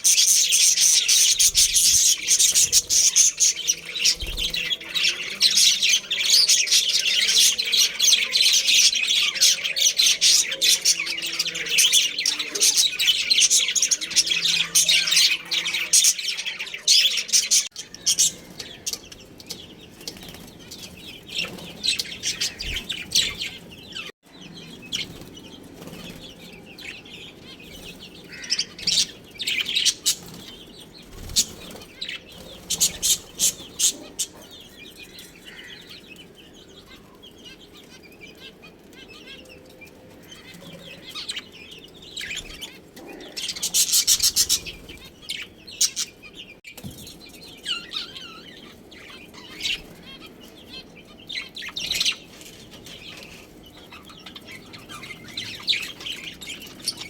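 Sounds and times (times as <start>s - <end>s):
budgerigars chirping: 0.0s - 39.6s, 40.2s - 46.6s, 47.2s - 57.0s.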